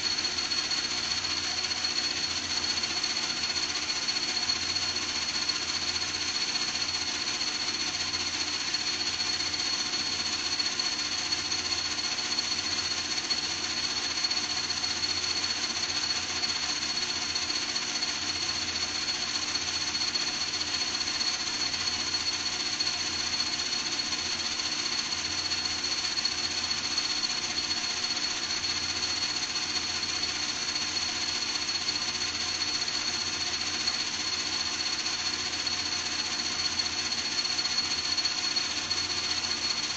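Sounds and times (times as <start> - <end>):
small motor whining and rattling: 0.0 - 39.9.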